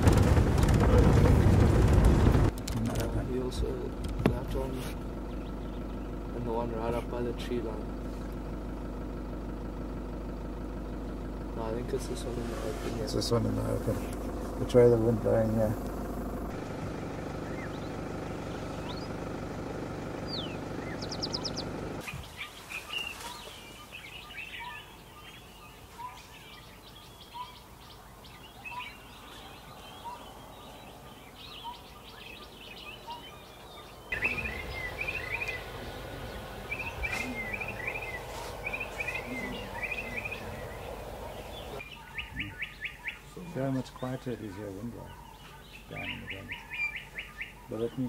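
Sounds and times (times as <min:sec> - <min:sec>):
vehicle engine running: 0:00.0 - 0:22.1, 0:22.8 - 0:48.0
wild birds chirping: 0:00.0 - 0:48.0.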